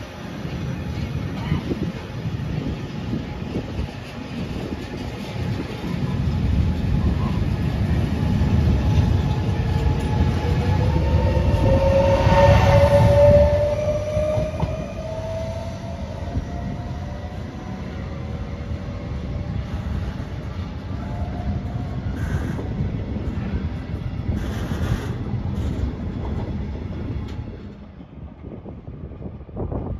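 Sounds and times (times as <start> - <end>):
train wheels rumbling: 0.0 - 29.9.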